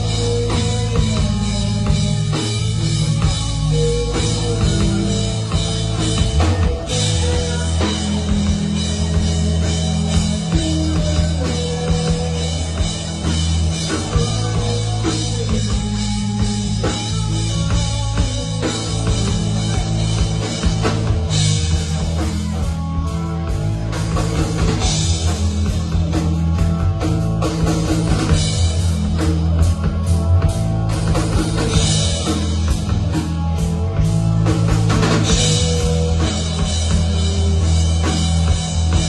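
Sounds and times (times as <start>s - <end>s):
rock band playing: 0.0s - 39.0s
steady bass line: 0.0s - 39.0s.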